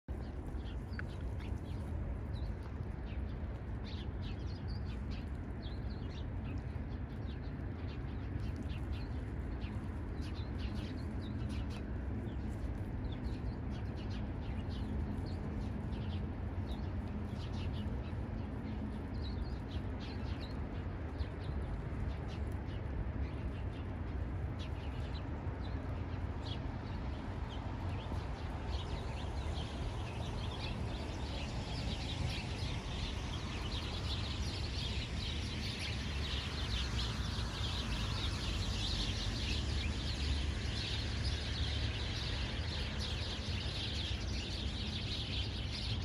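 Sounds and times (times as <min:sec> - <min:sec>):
steady low rumble: 0:00.1 - 0:45.9
small birds chirping: 0:00.1 - 0:46.0.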